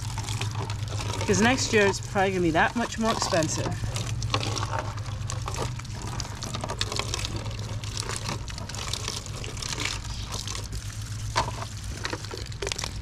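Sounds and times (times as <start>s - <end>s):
water splashing into plastic pots: 0.0s - 13.0s.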